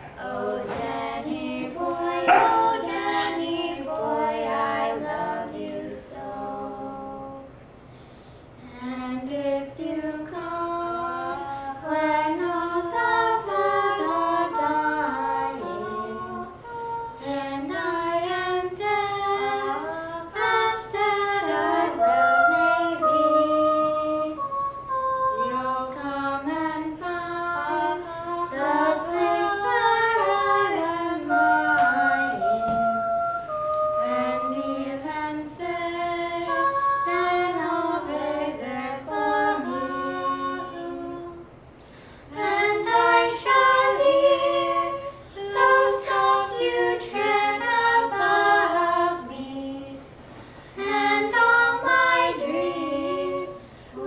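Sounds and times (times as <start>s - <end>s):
girls singing together: 0.0s - 7.6s, 8.6s - 54.0s.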